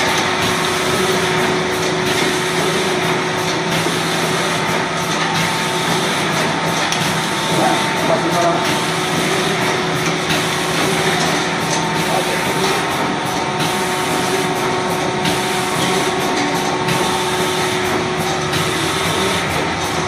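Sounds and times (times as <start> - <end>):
filling machine running: 0.0 - 20.0.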